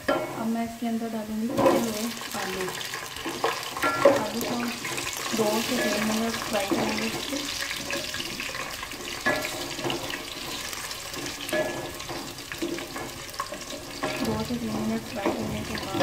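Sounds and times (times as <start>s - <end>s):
potatoes sizzling in hot oil: 0.0s - 16.0s
wooden spoon stirring: 1.6s - 16.0s.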